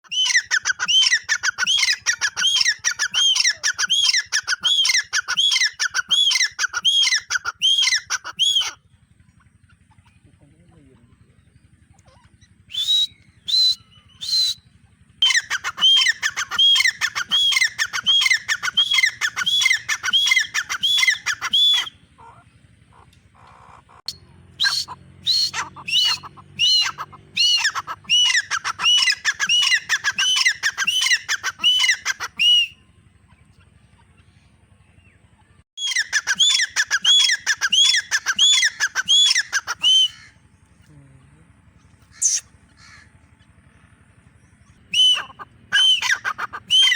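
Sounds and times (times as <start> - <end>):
francolin calling: 0.0 - 46.9.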